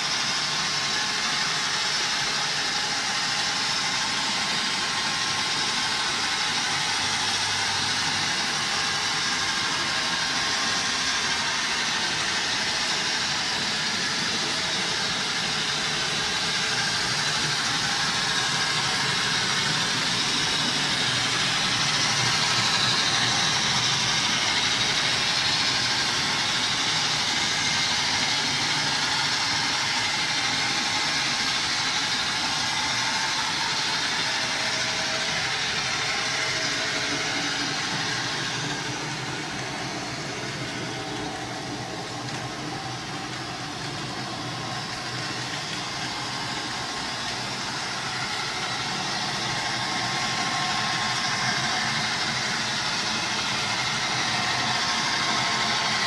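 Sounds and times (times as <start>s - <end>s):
faint motor whine: 0.0s - 56.0s
model train running: 0.0s - 56.0s.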